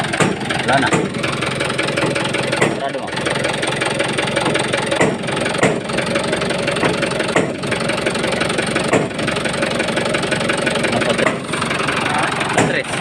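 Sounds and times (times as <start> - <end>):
diesel engine idling: 0.0 - 13.0
sharp engine knocks: 0.0 - 13.0.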